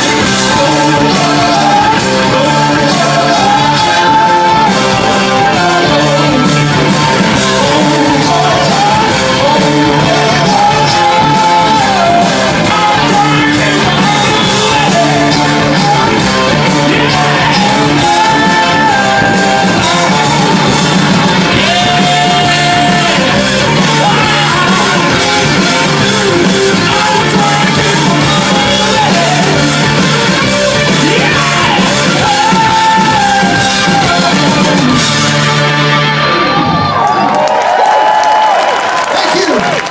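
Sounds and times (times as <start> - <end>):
singer's long held vocals: 0.0 - 35.4
hard rock band playing live: 0.0 - 37.4
electric guitar: 0.0 - 39.9.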